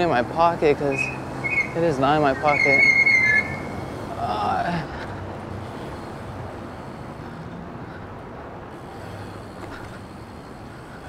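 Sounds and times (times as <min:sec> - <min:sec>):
bike riding rushing noise: 0:00.0 - 0:11.0.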